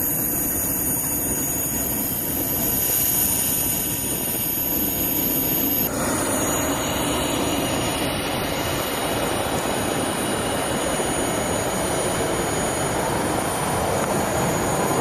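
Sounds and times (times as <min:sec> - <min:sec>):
turbine whine: 0:00.0 - 0:15.0
turboprop engines roaring: 0:00.0 - 0:15.0.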